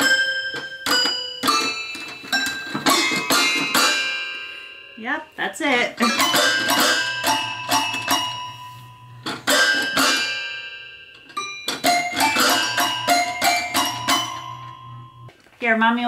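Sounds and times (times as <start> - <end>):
toy piano notes: 0.0 - 15.3.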